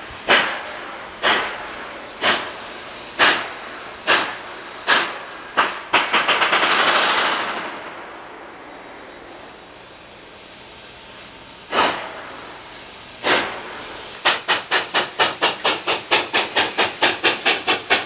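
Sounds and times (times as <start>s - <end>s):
steam locomotive exhaust chuffing: 0.0s - 8.4s, 9.7s - 18.0s.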